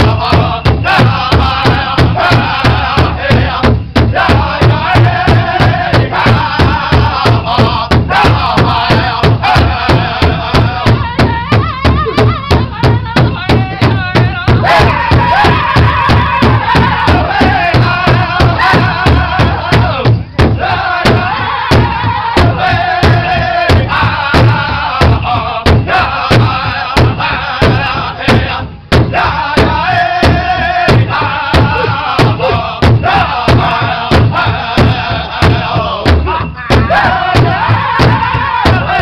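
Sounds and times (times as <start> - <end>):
large drum steady beat: 0.0 - 39.0
men singing high-pitched: 0.0 - 39.0.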